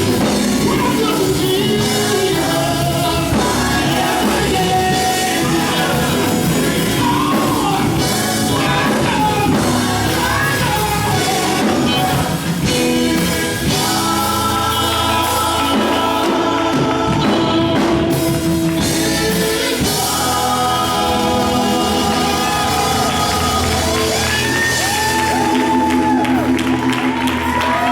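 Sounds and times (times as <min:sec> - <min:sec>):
person singing: 0:00.0 - 0:26.4
live band music: 0:00.0 - 0:27.9.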